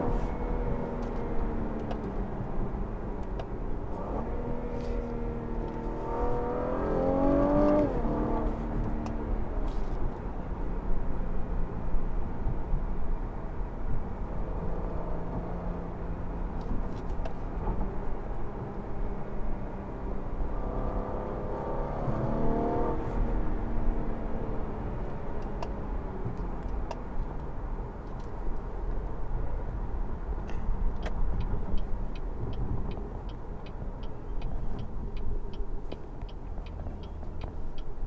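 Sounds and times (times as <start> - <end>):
car engine and tyres rumbling: 0.0 - 38.0.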